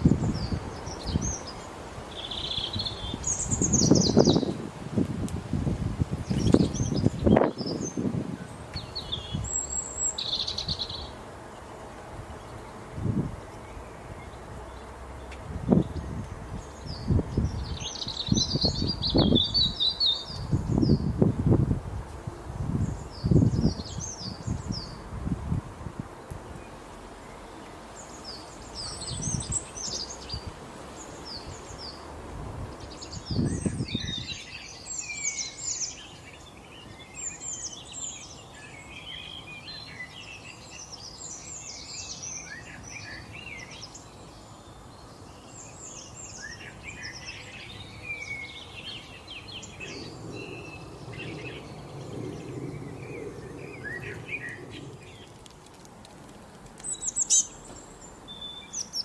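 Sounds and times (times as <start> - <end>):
small birds chirping: 0.0 - 4.7, 6.1 - 59.0.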